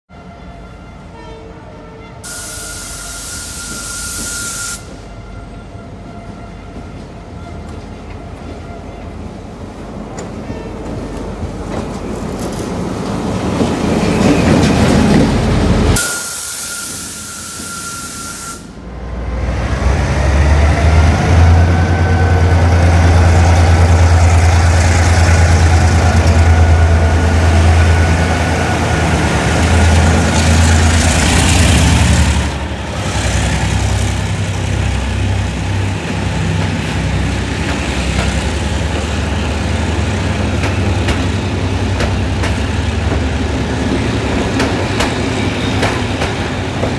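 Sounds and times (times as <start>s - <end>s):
diesel locomotive engine drone: 0.1s - 46.9s
train coaches rolling past: 2.2s - 46.9s.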